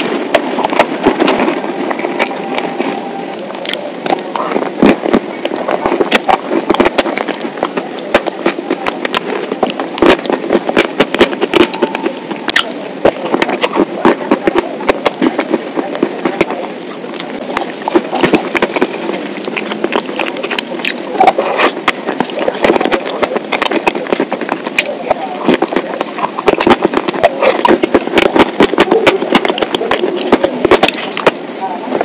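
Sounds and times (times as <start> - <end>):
chewing and lip-smacking: 0.0 - 2.7, 3.6 - 31.4.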